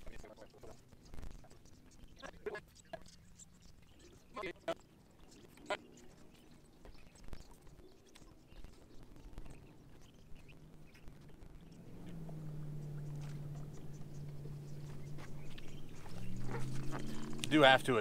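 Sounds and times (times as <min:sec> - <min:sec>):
electric trolling motor humming: 0:02.1 - 0:18.0.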